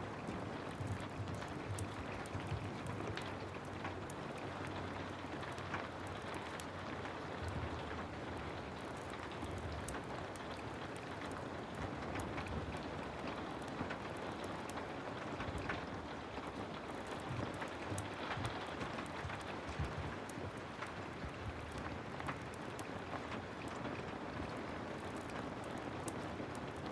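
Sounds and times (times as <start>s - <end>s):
heavy rain falling: 0.0s - 26.9s
sharp ticks and crackles: 0.1s - 26.9s.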